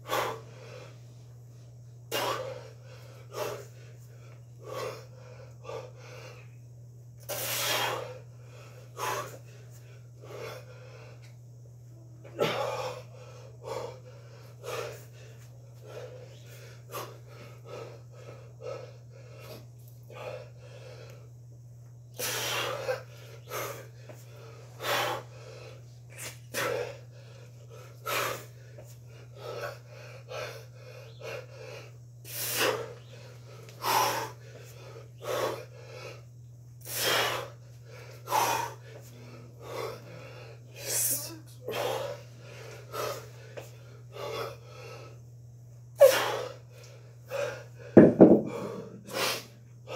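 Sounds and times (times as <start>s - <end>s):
man breathing hard: 0.0s - 49.9s
steady low hum: 0.0s - 49.9s.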